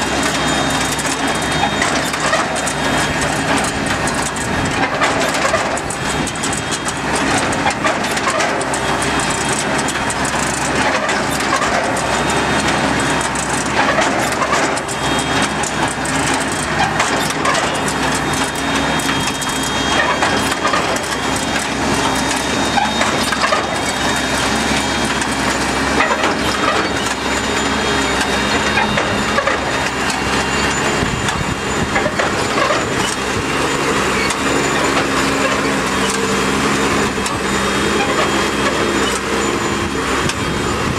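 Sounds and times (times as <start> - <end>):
engine running: 0.0 - 40.9
machine crackling clatter: 0.0 - 40.9.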